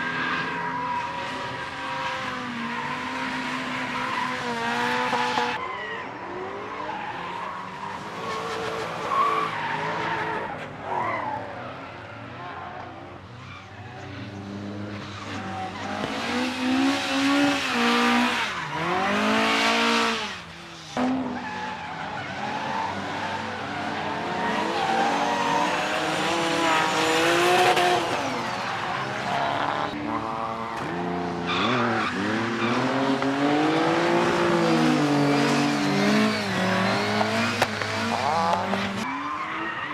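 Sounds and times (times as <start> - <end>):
car engines revving: 0.0 - 39.9
tyres squealing and skidding: 0.0 - 39.9.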